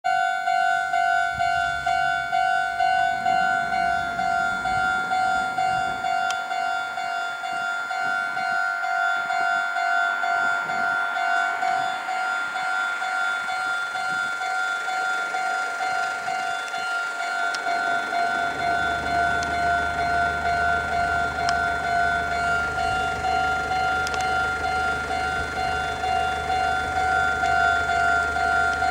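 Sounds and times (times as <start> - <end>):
level crossing bell dinging: 0.1 - 28.9.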